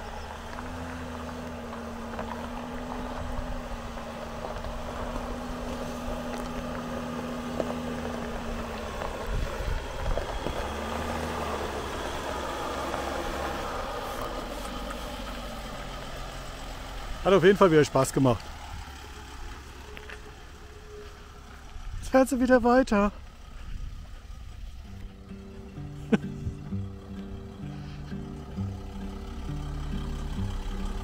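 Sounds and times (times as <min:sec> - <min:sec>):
diesel engine running: 0:00.0 - 0:31.0
van driving over gravel: 0:00.0 - 0:31.0.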